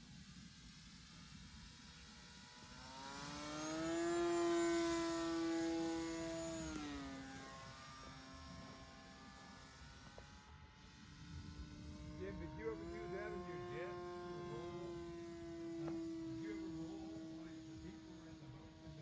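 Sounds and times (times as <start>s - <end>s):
model plane motor whining: 0.0s - 19.0s.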